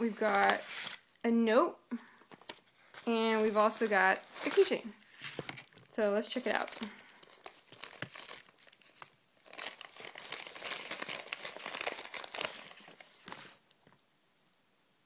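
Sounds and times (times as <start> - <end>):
paper wrapping crinkling: 0.0 - 1.2, 2.3 - 14.0.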